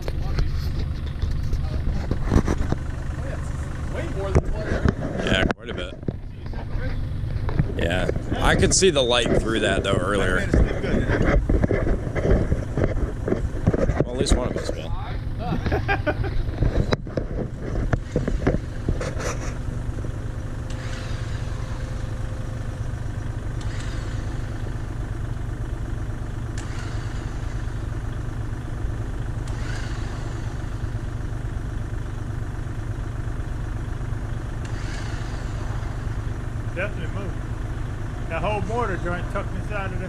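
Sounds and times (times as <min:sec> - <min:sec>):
heavy equipment engine running: 0:00.0 - 0:40.0.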